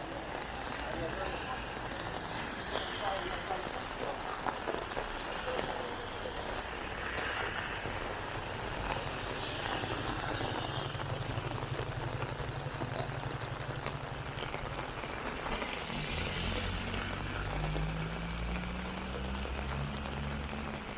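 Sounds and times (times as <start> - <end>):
rain falling: 0.0 - 20.9
vehicle engines humming: 0.0 - 20.9.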